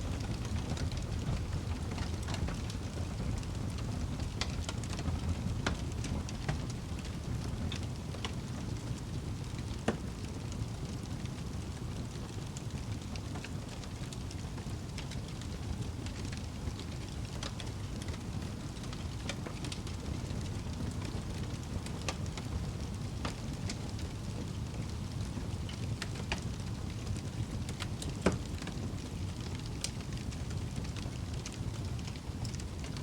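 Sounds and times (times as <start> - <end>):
fire crackles and pops: 0.0 - 33.0
wood fire burning: 0.0 - 33.0.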